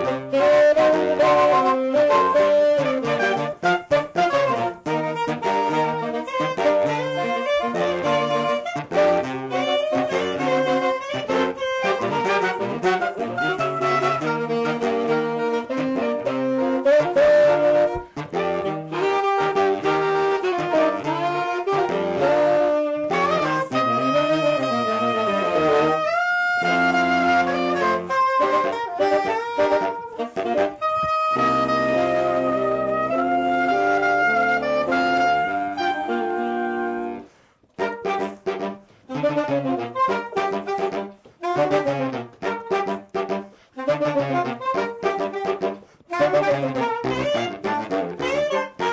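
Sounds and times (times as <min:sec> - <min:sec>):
saxophone quartet playing: 0:00.0 - 0:48.9.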